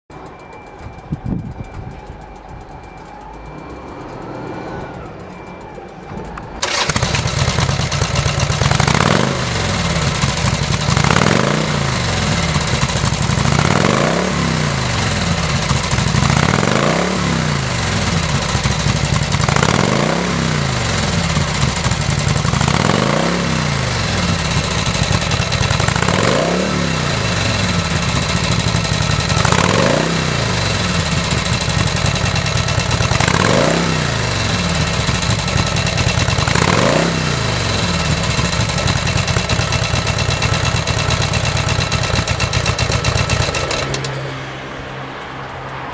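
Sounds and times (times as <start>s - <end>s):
motorcycle engine idling with throttle blips: 0.1s - 45.9s
motorcycle engine starting: 0.2s - 45.9s.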